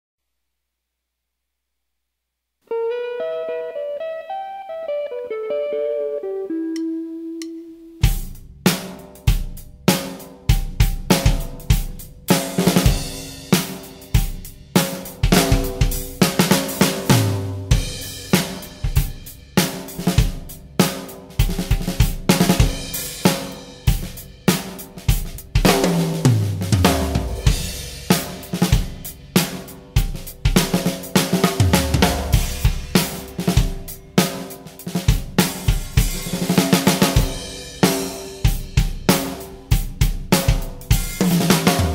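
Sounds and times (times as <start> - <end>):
cymbals: 6.8 - 41.9
drum kit playing a groove: 8.0 - 41.9.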